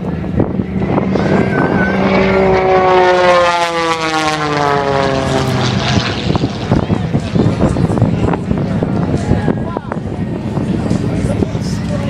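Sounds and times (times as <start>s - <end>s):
propeller airplane flying past: 0.0s - 12.0s.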